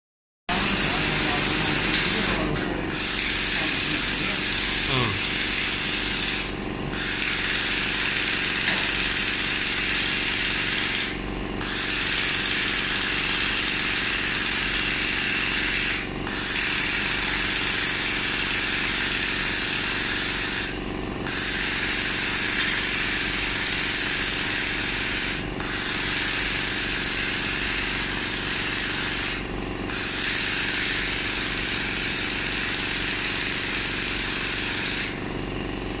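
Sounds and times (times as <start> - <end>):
welding machine hiss: 0.5 - 36.0.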